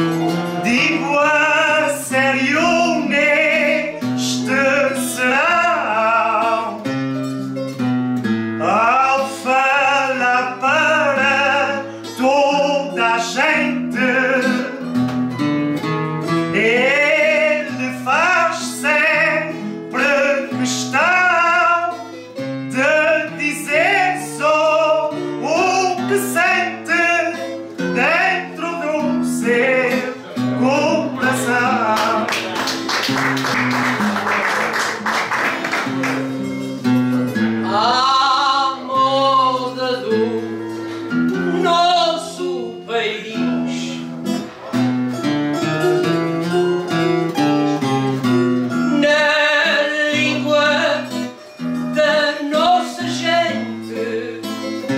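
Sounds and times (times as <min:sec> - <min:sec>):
person singing with vibrato: 0:00.0 - 0:07.6, 0:08.6 - 0:14.9, 0:16.2 - 0:32.6, 0:37.4 - 0:44.6, 0:47.3 - 0:54.9
plucked acoustic guitars: 0:00.0 - 0:54.9.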